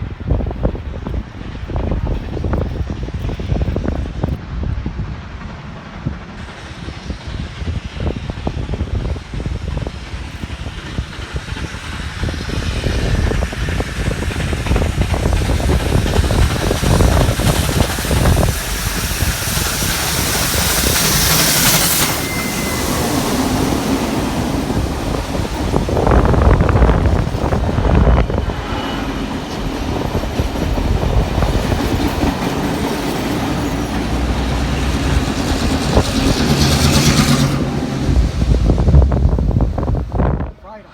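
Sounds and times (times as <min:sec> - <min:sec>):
train wheels clicking over rail joints: 0:00.1 - 0:40.4.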